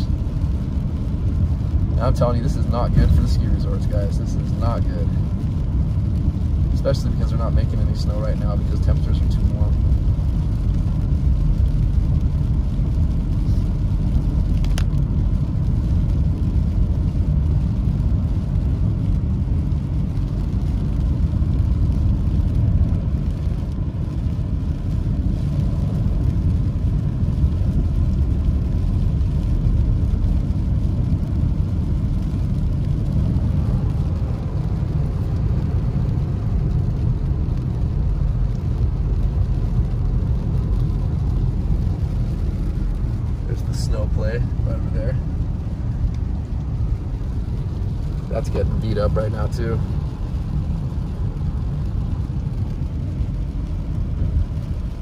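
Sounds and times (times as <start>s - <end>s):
car engine: 0.0s - 55.0s
tyre noise on wet road: 0.0s - 55.0s.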